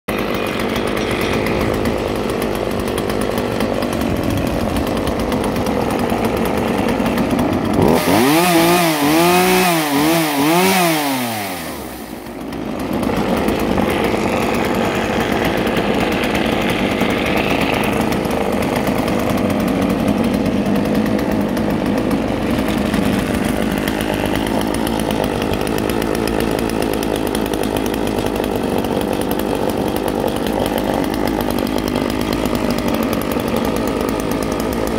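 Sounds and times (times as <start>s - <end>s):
chainsaw idling and revving: 0.1s - 34.9s.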